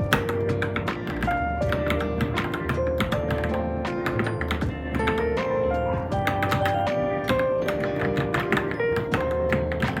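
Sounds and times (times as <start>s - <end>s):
mechanical keyboard typing: 0.0s - 5.3s, 6.2s - 10.0s
background music with held notes: 0.0s - 10.0s.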